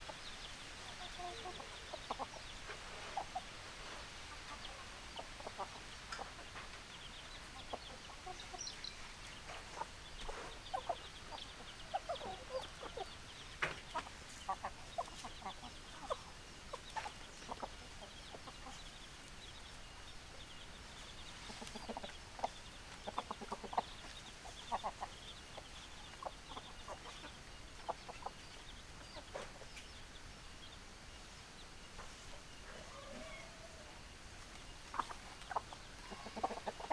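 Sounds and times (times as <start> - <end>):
hens clucking: 0.0 - 30.3, 31.9 - 36.9.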